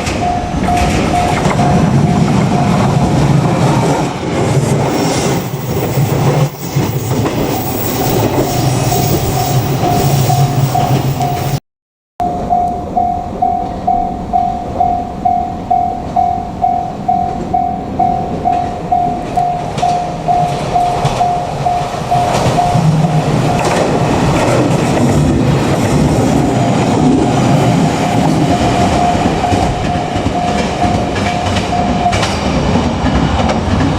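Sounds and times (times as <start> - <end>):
level crossing warning alarm: 0.0 - 11.6, 12.2 - 25.6, 26.6 - 32.5
train wheels clacking on rail joints: 0.0 - 11.6, 16.0 - 33.9.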